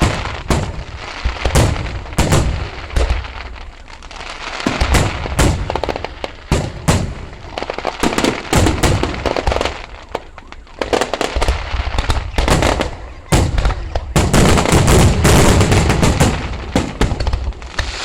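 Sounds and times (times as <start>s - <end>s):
fireworks booming: 0.0s - 18.0s
rapid fireworks crackling: 0.0s - 18.0s.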